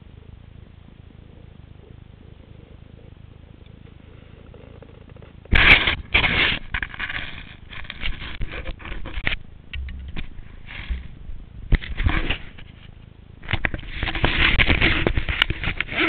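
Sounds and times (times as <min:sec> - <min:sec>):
low steady rumble: 0:00.0 - 0:05.5, 0:06.6 - 0:14.6.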